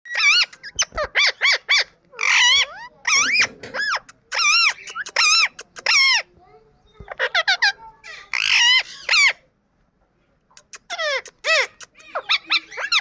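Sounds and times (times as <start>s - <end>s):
parrot squawking: 0.1s - 6.3s, 7.1s - 9.4s, 10.6s - 13.0s.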